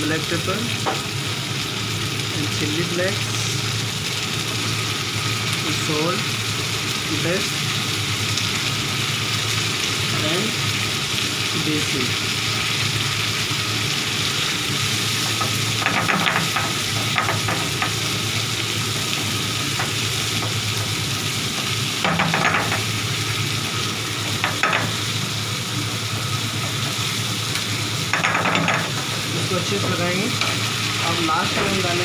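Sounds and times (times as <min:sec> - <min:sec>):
sauce sizzling in a frying pan: 0:00.0 - 0:32.0.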